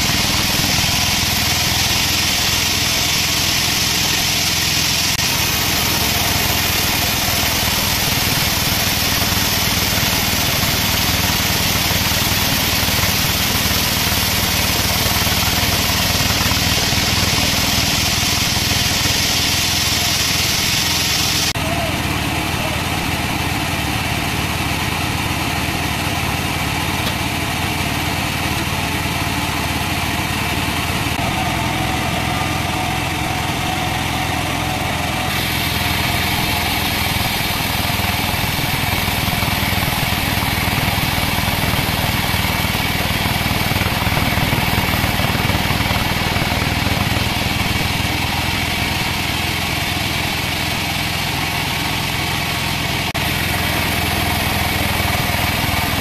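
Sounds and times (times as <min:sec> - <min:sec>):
band sawmill sawing a log: 0:00.0 - 0:56.0.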